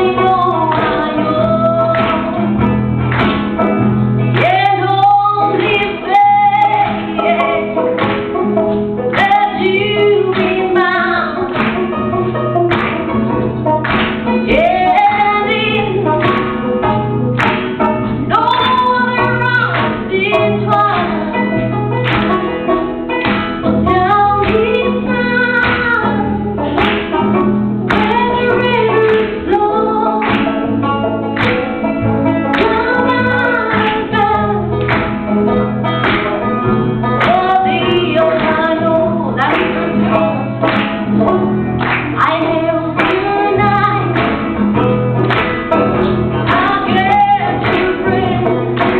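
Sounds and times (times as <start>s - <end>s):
woman singing: 0.0s - 2.8s, 4.2s - 12.1s, 13.8s - 22.8s, 23.7s - 31.5s, 32.4s - 35.2s, 36.9s - 48.9s
strummed acoustic guitar: 0.0s - 48.9s.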